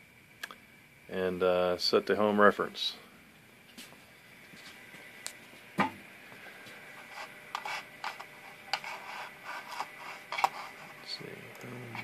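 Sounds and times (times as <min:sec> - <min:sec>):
faint high-pitched hum: 0:00.0 - 0:12.0.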